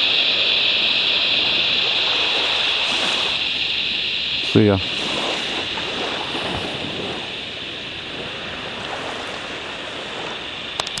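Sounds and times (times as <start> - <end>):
even rushing noise: 0.0 - 11.0
high-pitched drone: 0.0 - 11.0.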